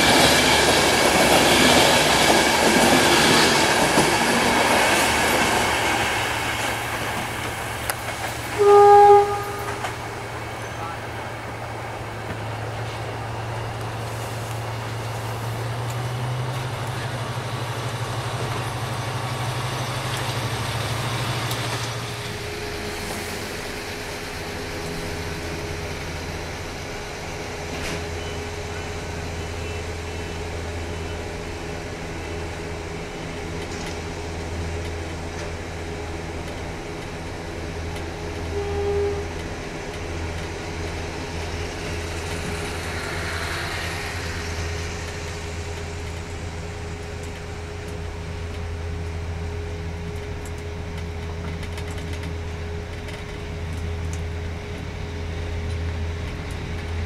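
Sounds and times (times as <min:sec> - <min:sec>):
diesel train engine drone: 0:00.0 - 0:57.0.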